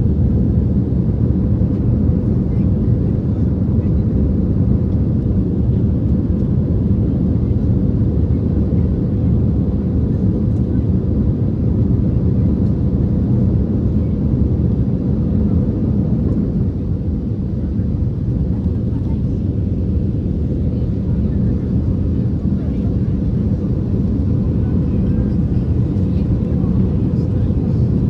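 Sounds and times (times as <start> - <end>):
jet engines and airflow in cabin: 0.0 - 28.0.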